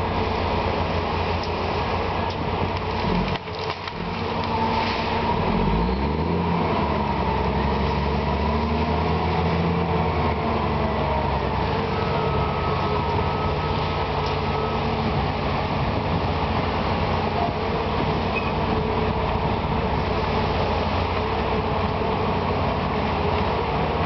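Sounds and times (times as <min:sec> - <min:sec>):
heavy diesel engine revving: 0:02.9 - 0:24.0.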